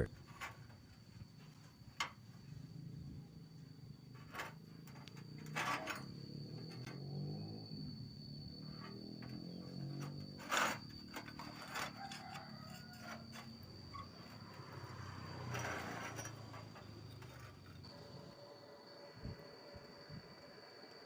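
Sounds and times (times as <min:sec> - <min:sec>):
faint high whine: 0:00.0 - 0:21.0.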